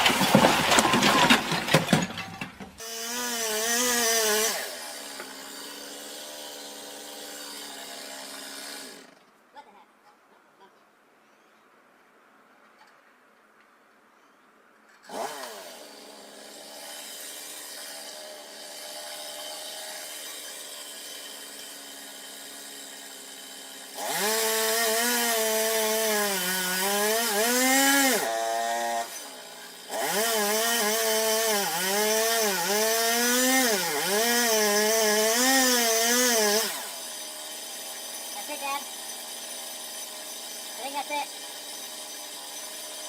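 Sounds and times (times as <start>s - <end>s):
chainsaw cutting wood: 0.0s - 9.3s, 15.0s - 43.0s.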